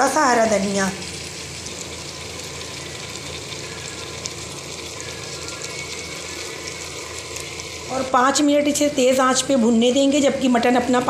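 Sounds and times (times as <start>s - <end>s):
oil sizzling in a pot: 0.0s - 11.0s.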